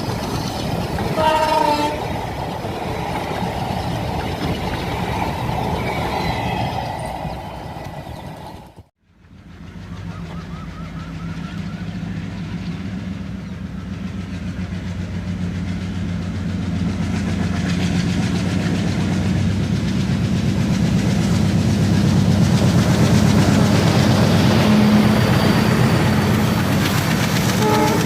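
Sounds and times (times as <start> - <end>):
diesel locomotive engine chugging: 0.0 - 28.0.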